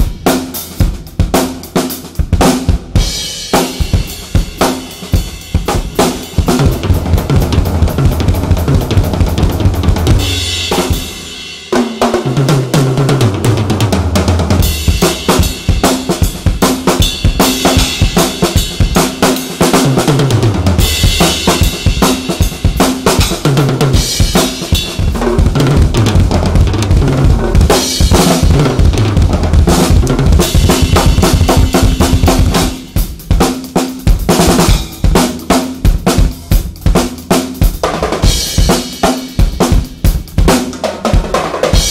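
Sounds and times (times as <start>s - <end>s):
drum kit playing: 0.0s - 41.9s.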